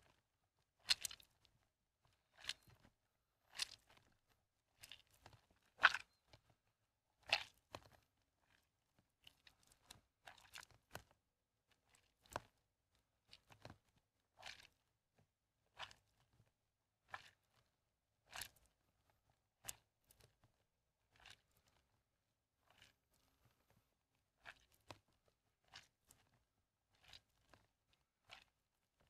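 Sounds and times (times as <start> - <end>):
wet soap squelching and crunching: 0.0 - 15.0, 15.6 - 29.0.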